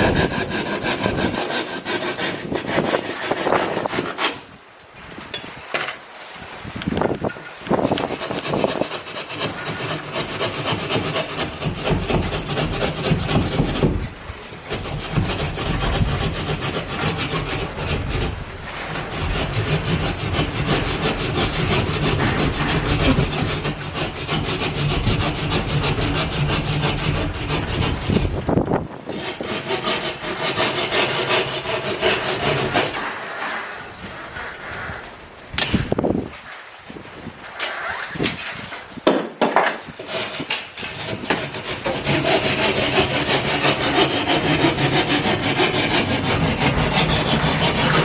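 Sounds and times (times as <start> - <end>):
fast sawing strokes: 0.0 - 4.4, 7.8 - 28.5, 29.1 - 34.8, 39.9 - 48.0.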